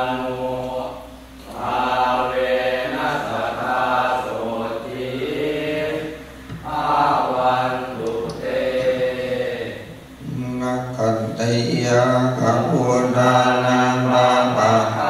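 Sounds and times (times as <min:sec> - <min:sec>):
voices chanting prayers: 0:00.0 - 0:15.0.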